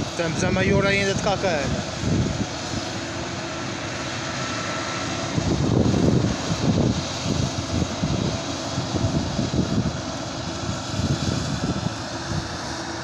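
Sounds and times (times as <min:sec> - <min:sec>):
low rumbles: 0:00.0 - 0:13.0.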